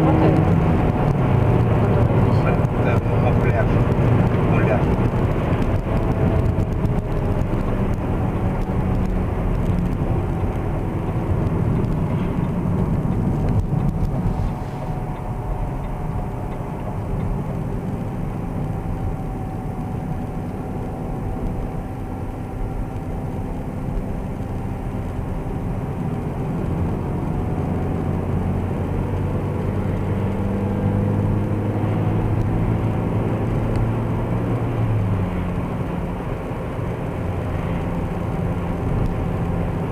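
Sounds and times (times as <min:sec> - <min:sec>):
car cabin low drone: 0:00.0 - 0:39.9.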